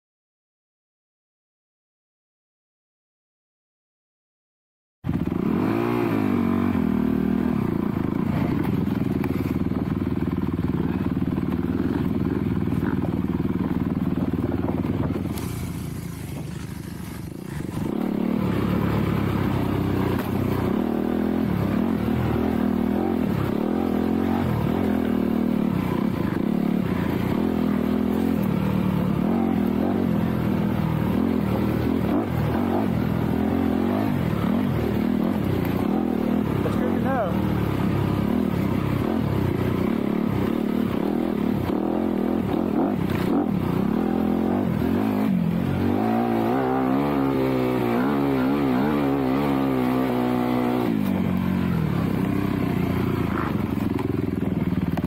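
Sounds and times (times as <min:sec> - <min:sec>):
dirt bike engine revving: 0:05.1 - 0:55.0.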